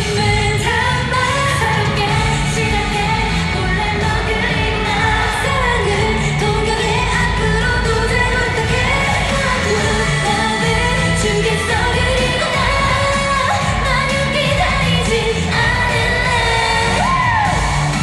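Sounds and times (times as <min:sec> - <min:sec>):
backing music with steady beat: 0:00.0 - 0:18.0
girl group singing pop song: 0:00.0 - 0:18.0.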